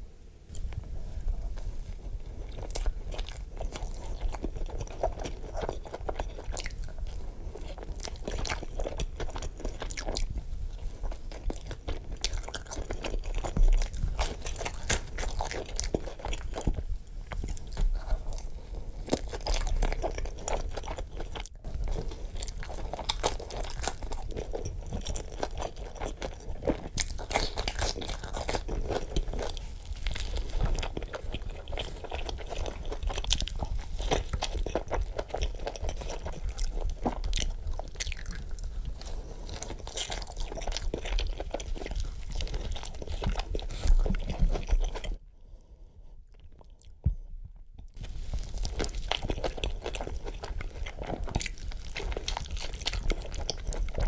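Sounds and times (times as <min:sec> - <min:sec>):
pizza crunching and chewing: 0:00.5 - 0:45.2, 0:47.9 - 0:54.0.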